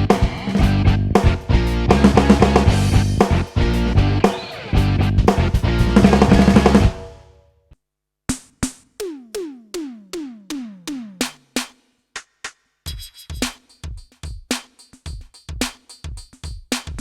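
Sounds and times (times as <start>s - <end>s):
electronic drum-kit pattern: 0.0s - 7.1s, 8.3s - 11.8s, 12.9s - 17.0s.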